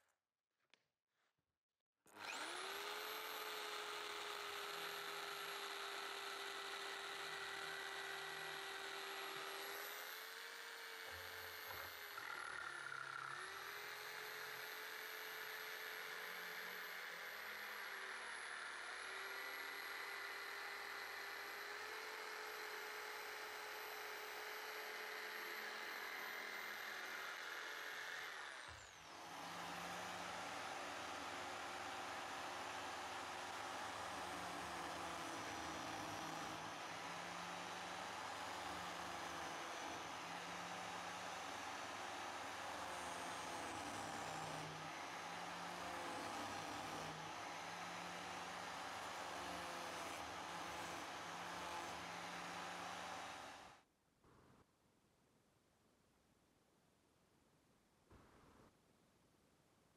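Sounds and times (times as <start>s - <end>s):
electric jigsaw cutting wood: 2.1s - 53.8s.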